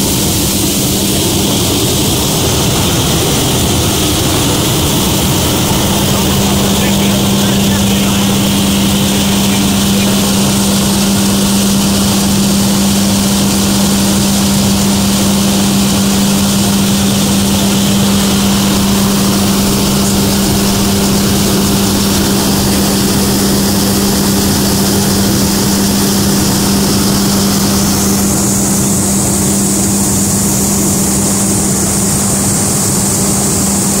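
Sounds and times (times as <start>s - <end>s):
rushing hiss: 0.0s - 31.5s
machine hum: 0.0s - 34.0s.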